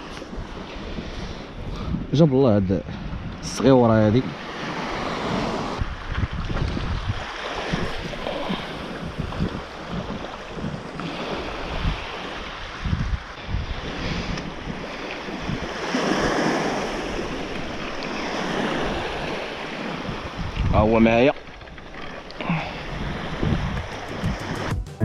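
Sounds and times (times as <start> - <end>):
wind buffeting microphone: 0.0 - 24.7
sea waves washing in: 2.8 - 25.0.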